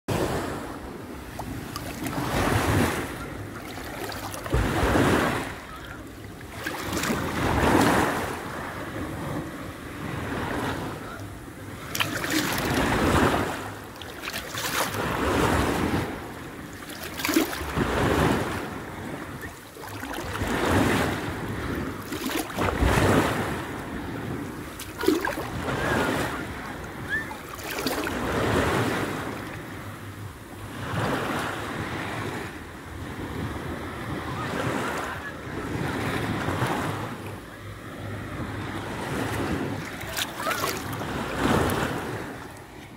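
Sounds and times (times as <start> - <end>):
small waves lapping: 0.1 - 42.9.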